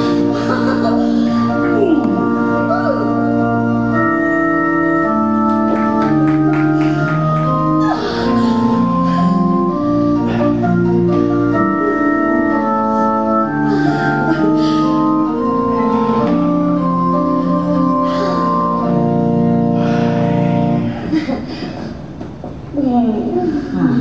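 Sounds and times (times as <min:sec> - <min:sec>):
electronic keyboard playing chords: 0:00.0 - 0:21.2.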